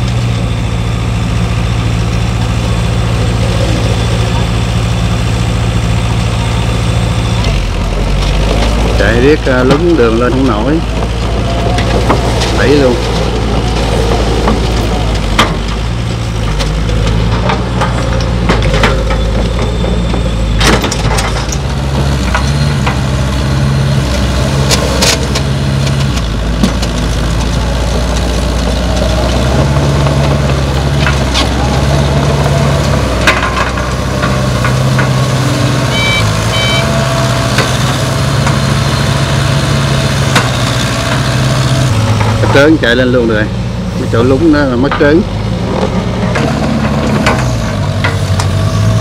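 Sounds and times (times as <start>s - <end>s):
excavator diesel engine under load: 0.0s - 49.0s
truck engine running: 0.0s - 49.0s.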